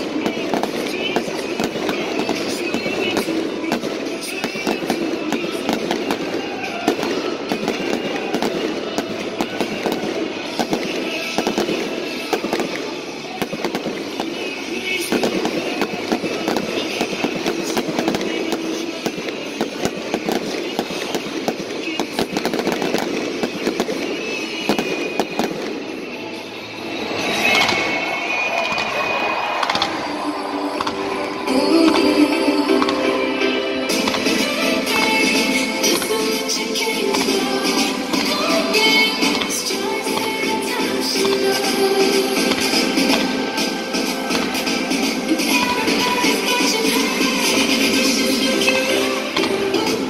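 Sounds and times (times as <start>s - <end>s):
fireworks crackling and popping: 0.0s - 50.0s
music: 0.0s - 50.0s
voices: 0.0s - 50.0s.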